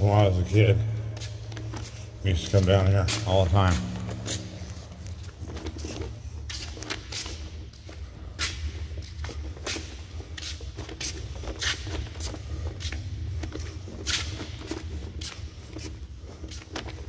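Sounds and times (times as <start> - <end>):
footsteps on gritty concrete: 0.0 - 17.0.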